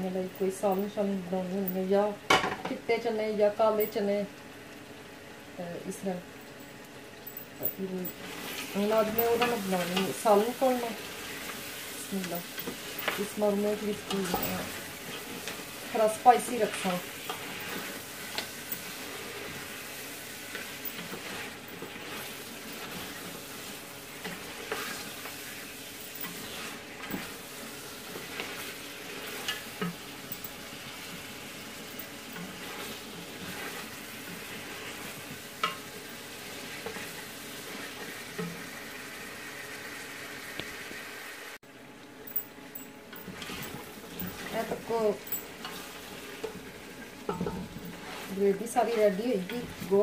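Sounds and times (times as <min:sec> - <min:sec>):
meat sizzling in a pot: 0:00.0 - 0:50.0.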